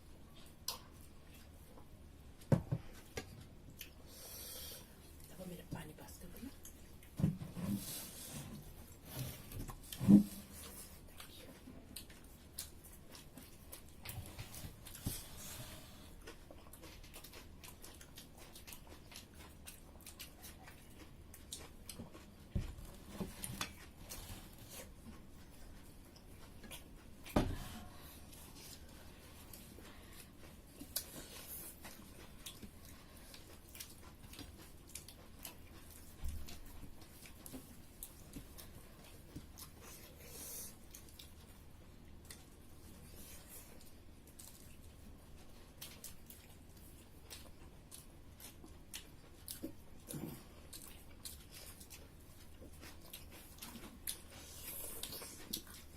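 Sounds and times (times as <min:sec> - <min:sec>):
quiet chewing: 0:00.0 - 0:55.9.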